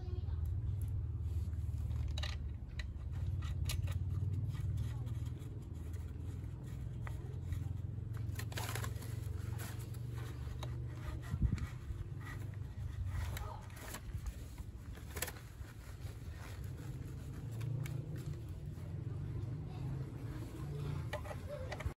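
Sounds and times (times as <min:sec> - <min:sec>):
clicks and scrapes of tools: 0:01.8 - 0:15.8, 0:17.4 - 0:21.9.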